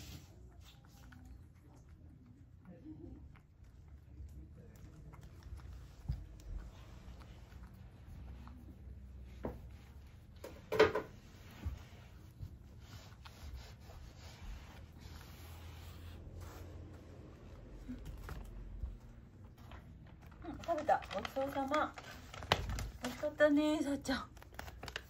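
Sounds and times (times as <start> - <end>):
cat chewing and licking: 0.0 - 23.2.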